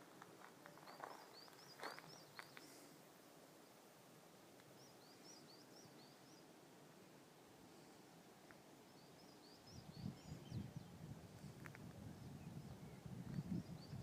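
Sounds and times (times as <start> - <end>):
faint bird song: 0.0 - 14.0.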